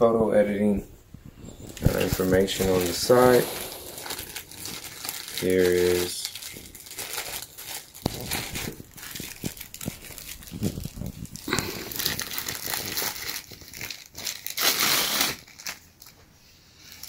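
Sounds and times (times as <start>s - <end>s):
plastic bag crinkling: 1.4s - 16.2s.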